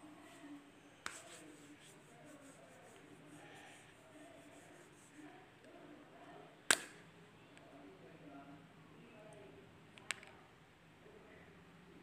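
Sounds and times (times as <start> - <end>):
faint voices murmuring: 0.0 - 12.0.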